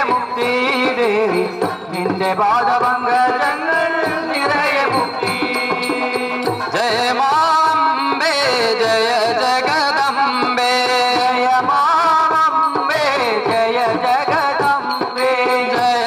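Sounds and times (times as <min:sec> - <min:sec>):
men singing devotional song: 0:00.0 - 0:16.0.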